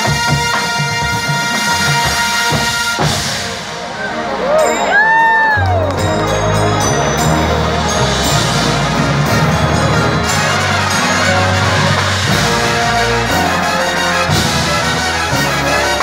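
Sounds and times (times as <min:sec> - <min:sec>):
brass ensemble playing chords: 0:00.0 - 0:05.1, 0:05.8 - 0:16.0.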